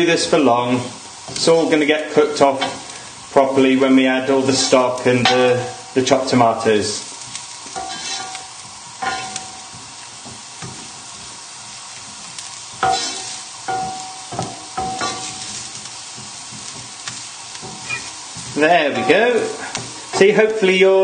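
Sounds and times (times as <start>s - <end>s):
food sizzling in a frying pan: 0.0s - 21.0s
wooden spoon scraping a pan: 1.2s - 5.8s, 6.9s - 20.4s.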